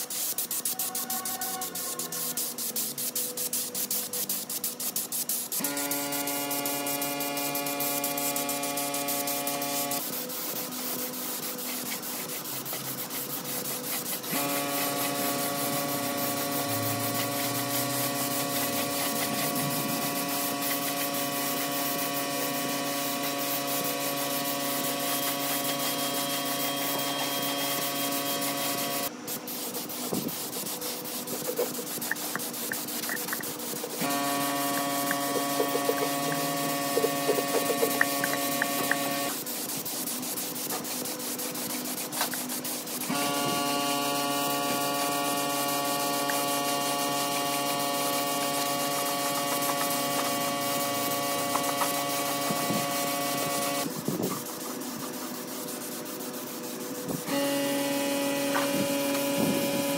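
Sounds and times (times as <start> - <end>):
power tool sanding: 0.0 - 59.9.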